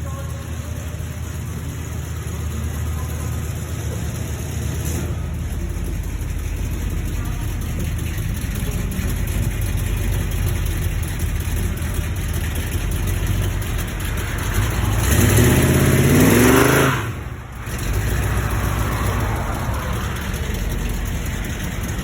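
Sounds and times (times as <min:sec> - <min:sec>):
car engines running low: 0:00.0 - 0:22.0
car accelerating hard: 0:01.2 - 0:22.0.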